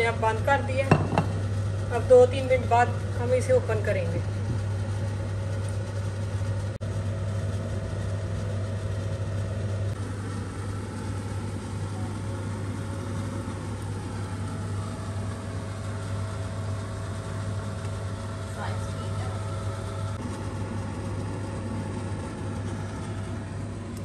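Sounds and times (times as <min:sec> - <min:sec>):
kitchen appliance humming: 0:00.0 - 0:24.0.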